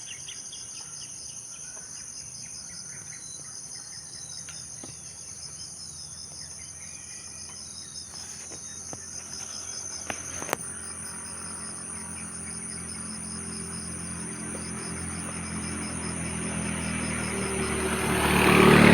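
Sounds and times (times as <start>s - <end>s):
insects trilling: 0.0s - 18.9s.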